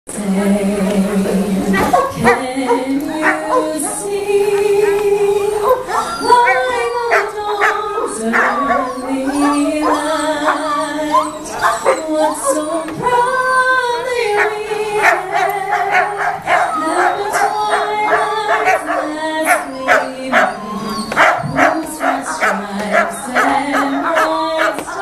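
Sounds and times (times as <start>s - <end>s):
dogs barking: 1.6s - 25.0s
dogs whining and howling: 1.6s - 25.0s.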